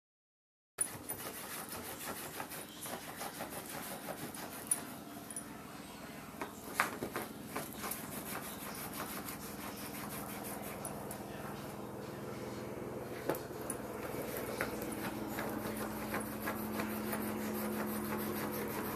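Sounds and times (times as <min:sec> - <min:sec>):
puppy claws scratching fabric: 0:00.8 - 0:05.4, 0:06.4 - 0:11.8, 0:13.0 - 0:18.9.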